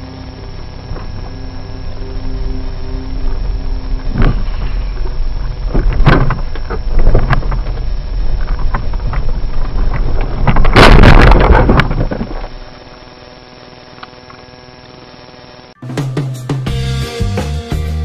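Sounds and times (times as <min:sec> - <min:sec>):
quiet steady hum: 0:00.0 - 0:15.8.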